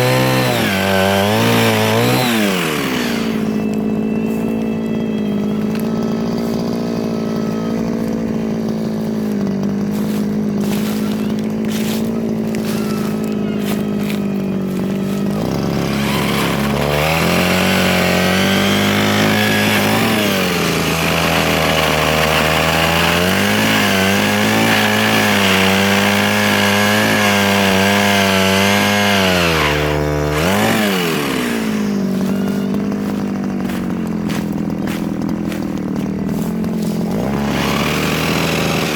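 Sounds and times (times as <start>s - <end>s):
mini chainsaw cutting wood: 0.0s - 38.9s.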